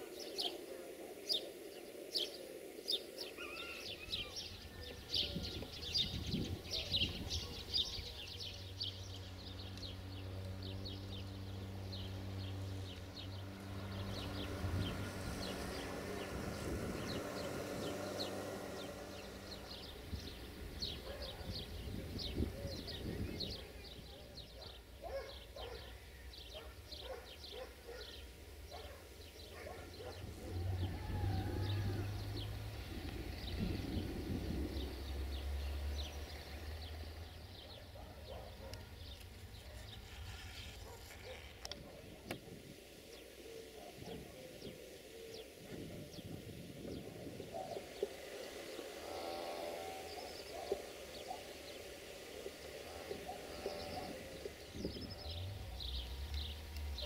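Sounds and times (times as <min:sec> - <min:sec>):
small birds chirping: 0:00.0 - 0:57.0
low engine hum: 0:03.7 - 0:57.0.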